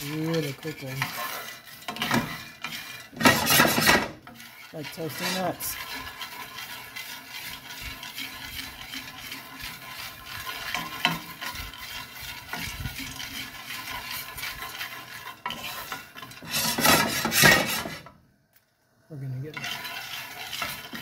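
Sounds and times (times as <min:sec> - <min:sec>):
coffee beans crackling: 0:00.0 - 0:17.8
coffee beans rattling: 0:00.0 - 0:17.8
wooden spoon scraping pan: 0:00.0 - 0:18.2, 0:19.2 - 0:21.0.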